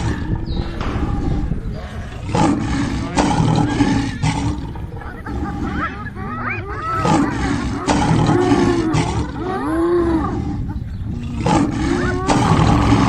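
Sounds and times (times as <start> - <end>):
animals crying: 0.0 - 13.0
low rumble: 0.0 - 13.0.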